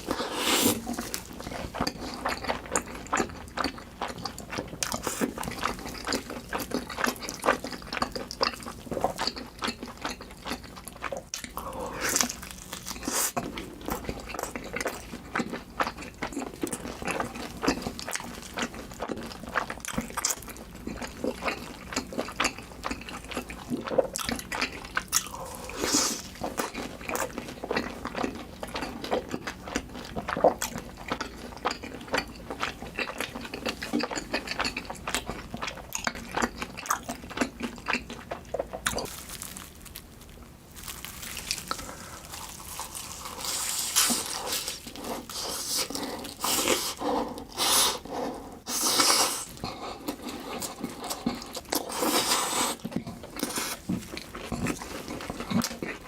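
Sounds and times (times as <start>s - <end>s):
wet chewing and mouth-smacking: 0.6s - 56.0s.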